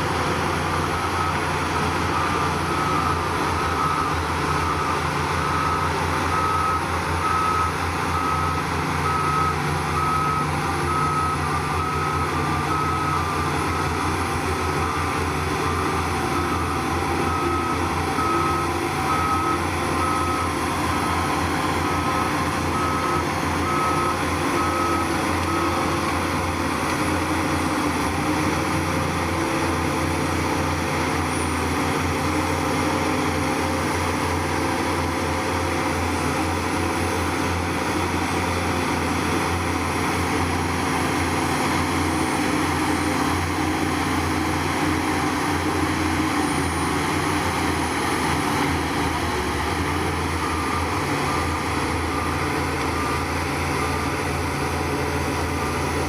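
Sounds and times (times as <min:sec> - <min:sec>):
diesel engine running: 0:00.0 - 0:56.0
reversing alarm beeping: 0:00.6 - 0:32.6, 0:40.5 - 0:56.0.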